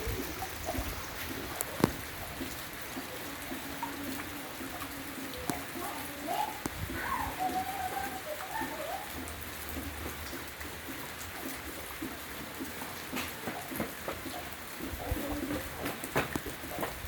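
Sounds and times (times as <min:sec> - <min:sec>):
heavy rain: 0:00.0 - 0:17.0
raindrops ticking on surface: 0:00.0 - 0:17.0.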